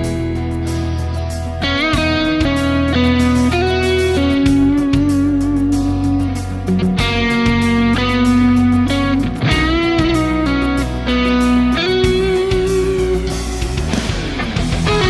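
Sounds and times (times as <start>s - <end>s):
distorted electric guitar lead: 0.0s - 15.0s
low bass backing: 0.0s - 15.0s.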